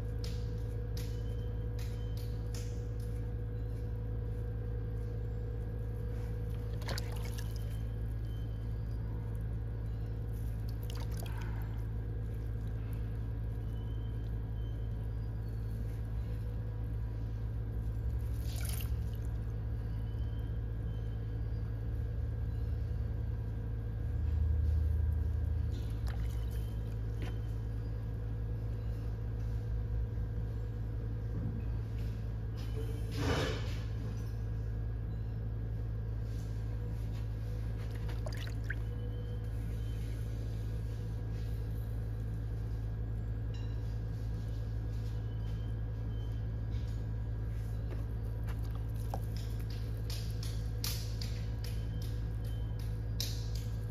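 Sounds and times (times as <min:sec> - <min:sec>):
pottery wheel motor humming: 0:00.0 - 0:33.2, 0:33.8 - 0:53.9.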